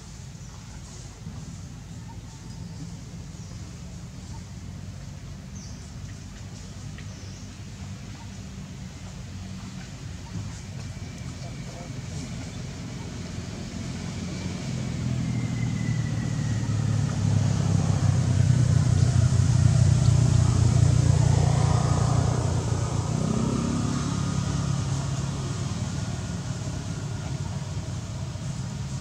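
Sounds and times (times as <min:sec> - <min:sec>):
vehicle engine passing by: 0:05.0 - 0:29.0.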